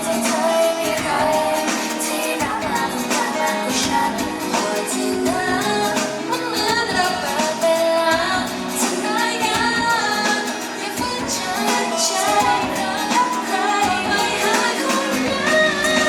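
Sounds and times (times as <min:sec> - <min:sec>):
pop song with singer: 0:00.0 - 0:16.0.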